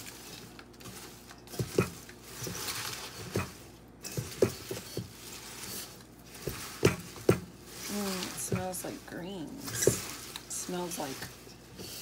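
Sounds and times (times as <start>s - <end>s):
leaves rustling: 0.0s - 12.0s.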